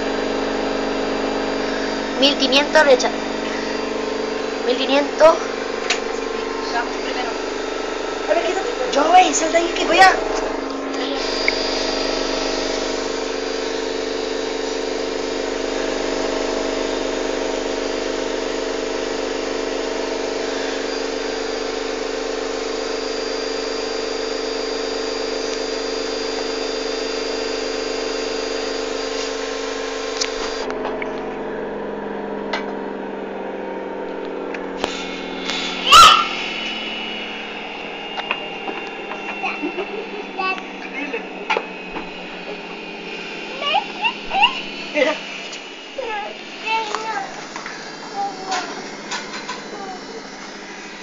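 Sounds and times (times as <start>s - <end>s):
washing machine spinning: 0.0s - 51.0s.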